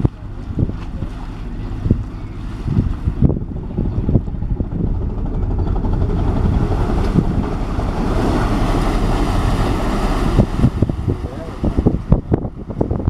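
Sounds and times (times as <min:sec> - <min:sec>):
ferry engines churning water: 0:00.0 - 0:13.0
wind buffeting microphone: 0:00.0 - 0:13.0.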